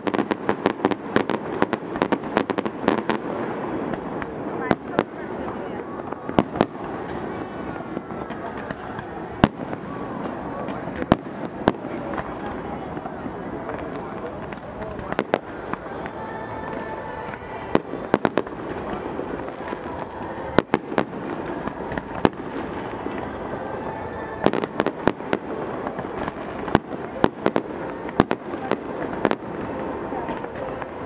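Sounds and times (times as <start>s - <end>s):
fireworks banging: 0.0s - 31.0s.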